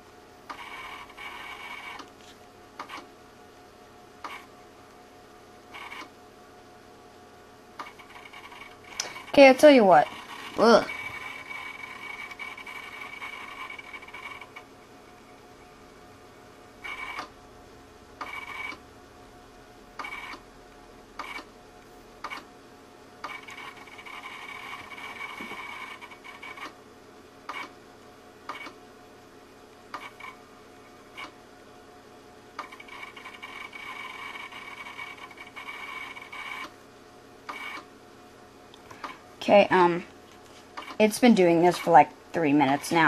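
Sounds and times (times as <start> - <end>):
computer hum: 0.0 - 43.0
hard drive grinding with high tone: 0.0 - 43.0.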